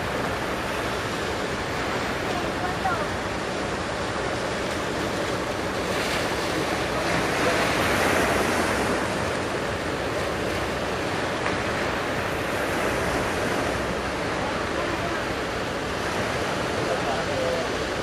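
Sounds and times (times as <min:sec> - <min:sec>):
heavy surf breaking: 0:00.0 - 0:18.0.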